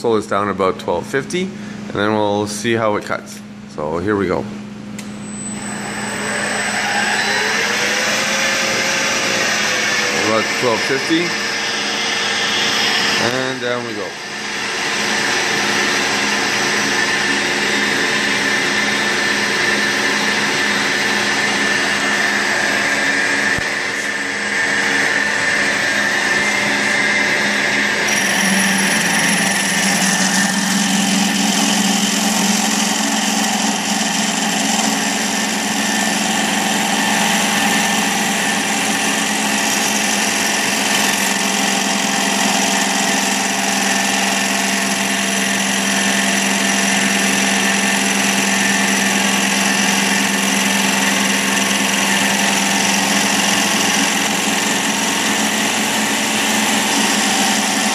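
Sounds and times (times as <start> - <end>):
milling machine hum: 0.0 - 57.9
hole saw cutting aluminum: 5.4 - 57.9.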